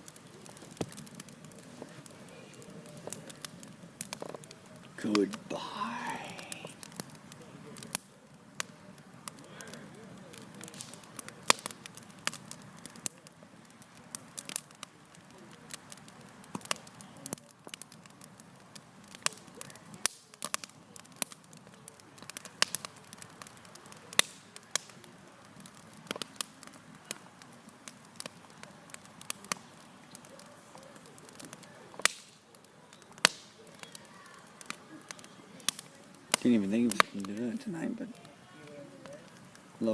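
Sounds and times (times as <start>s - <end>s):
campfire crackling: 0.0s - 39.9s
low steady hiss: 0.0s - 39.9s.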